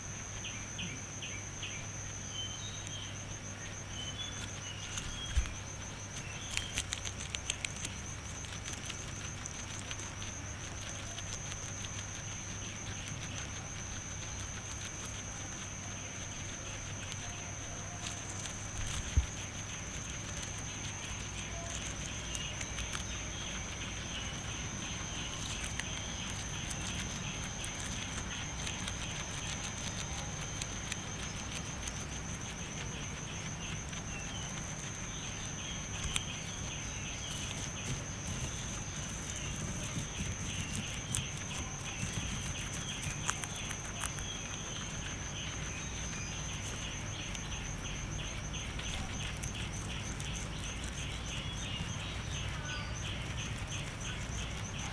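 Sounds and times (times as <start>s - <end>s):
guinea pig chewing grass: 0.0s - 54.9s.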